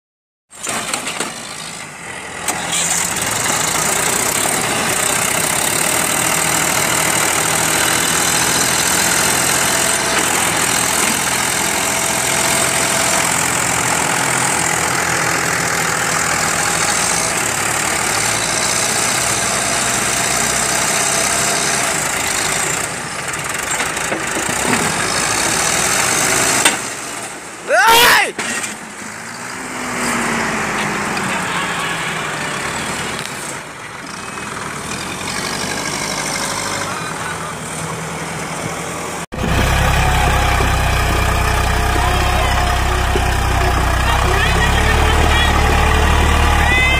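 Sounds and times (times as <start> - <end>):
tractor diesel engine straining: 0.5 - 46.9.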